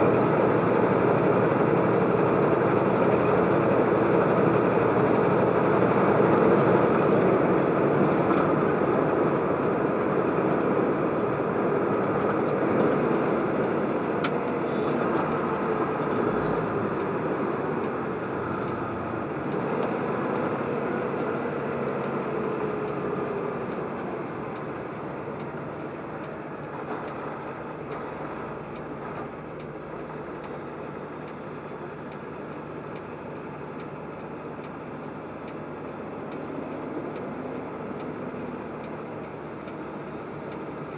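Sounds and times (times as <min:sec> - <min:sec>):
truck road and engine noise: 0:00.0 - 0:40.9.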